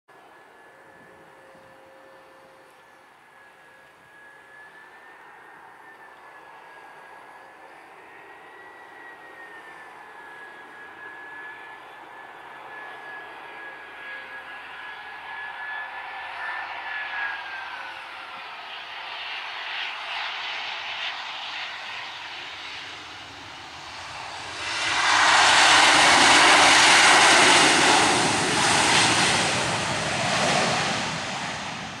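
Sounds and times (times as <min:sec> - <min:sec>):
jet engine whine: 0:00.1 - 0:32.0
jet roar of reverse thrust: 0:04.1 - 0:32.0.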